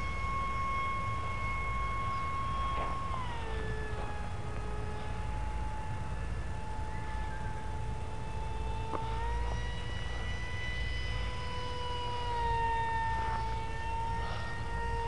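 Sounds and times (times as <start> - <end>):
electric motor and propeller whine: 0.0 - 15.0.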